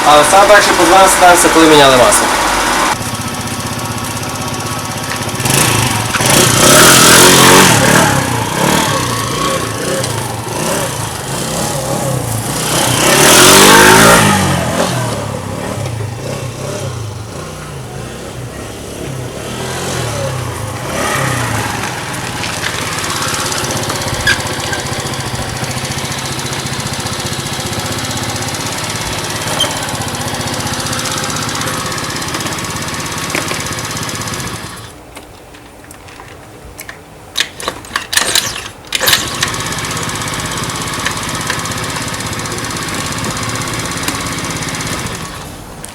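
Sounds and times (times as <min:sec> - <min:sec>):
scooter engine revving: 0:00.0 - 0:35.0, 0:38.2 - 0:45.9.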